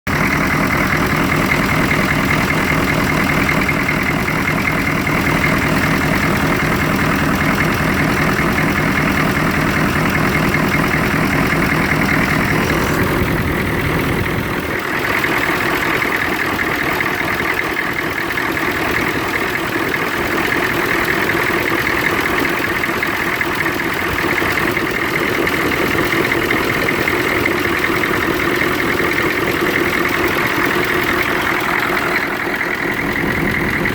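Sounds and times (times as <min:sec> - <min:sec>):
diesel engine idling roughly: 0:00.0 - 0:33.9.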